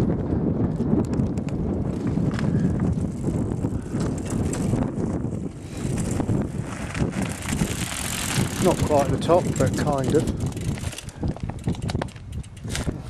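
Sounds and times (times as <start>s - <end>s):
mountain bike on stony track: 0.0s - 13.0s
wind buffeting microphone: 0.0s - 13.0s
bike clicks and knocks on stones: 0.8s - 13.0s.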